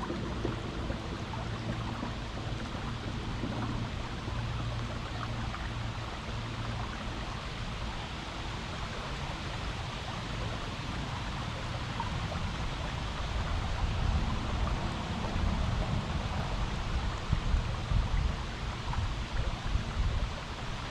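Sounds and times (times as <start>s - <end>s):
gusty low rumble: 0.0s - 7.9s, 9.4s - 20.9s
creek water rushing over rocks: 0.0s - 20.9s.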